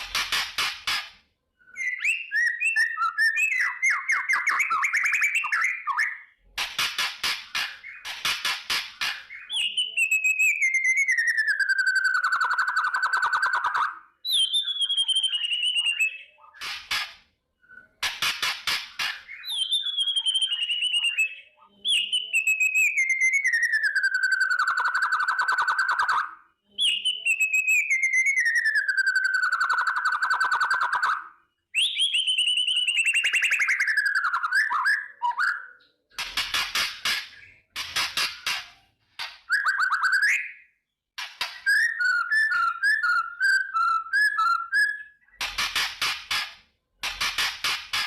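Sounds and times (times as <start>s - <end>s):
bird buzzy rattling song: 0.0s - 26.2s, 26.9s - 48.0s.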